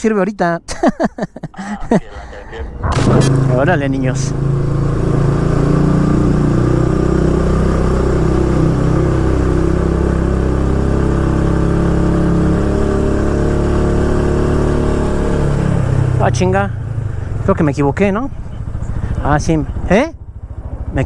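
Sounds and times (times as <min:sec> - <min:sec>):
motorcycle engine running: 0:02.9 - 0:21.0.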